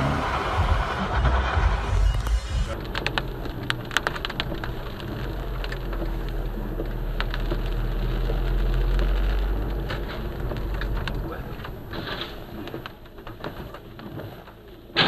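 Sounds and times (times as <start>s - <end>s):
engine and tyre drone: 0.0s - 13.0s
rain ticking on windscreen: 2.7s - 15.0s.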